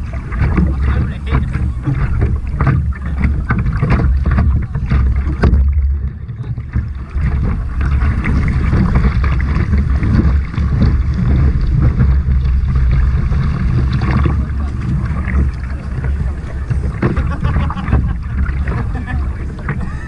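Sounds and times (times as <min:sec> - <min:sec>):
water splashing around kayak: 0:00.0 - 0:20.0
wind buffeting microphone: 0:00.0 - 0:20.0.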